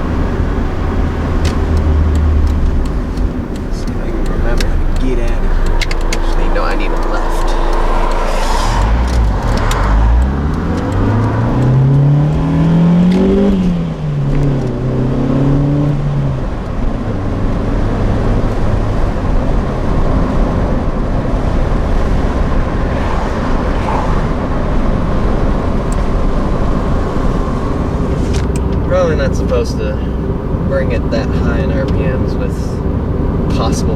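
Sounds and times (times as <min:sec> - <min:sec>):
car engine revving: 0:00.0 - 0:33.9
road noise: 0:00.0 - 0:33.9.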